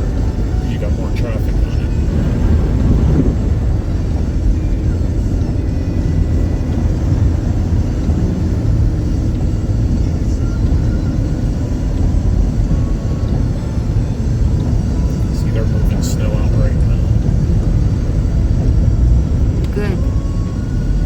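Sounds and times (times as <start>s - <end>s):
tyres and engine rumble: 0.0s - 21.0s.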